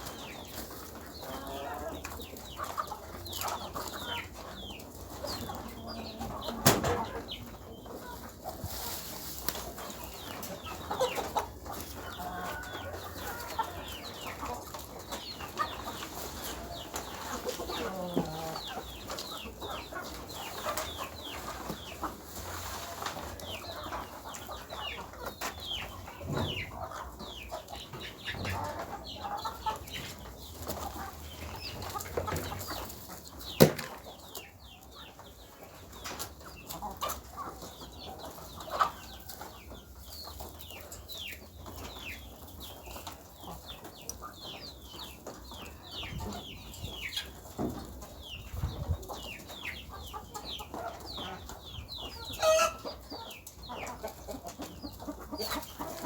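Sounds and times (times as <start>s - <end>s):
chickens clucking and calling: 0.0s - 56.0s.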